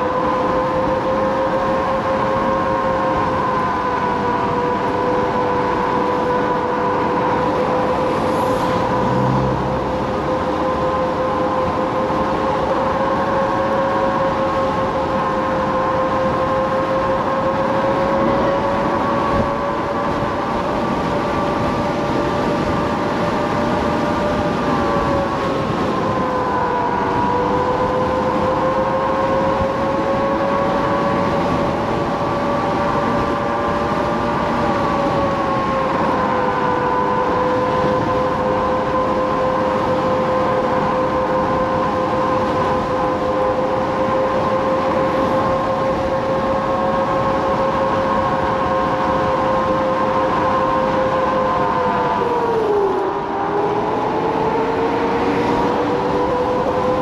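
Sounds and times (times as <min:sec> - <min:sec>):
electric scooter motor whining: 0:00.0 - 0:57.0
wind: 0:00.0 - 0:57.0.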